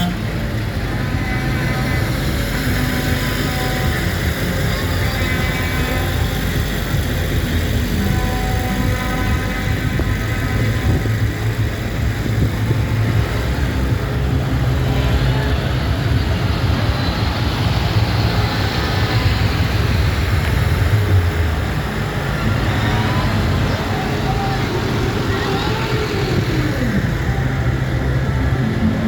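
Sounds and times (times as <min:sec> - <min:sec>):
tractor engines droning: 0:00.0 - 0:29.0.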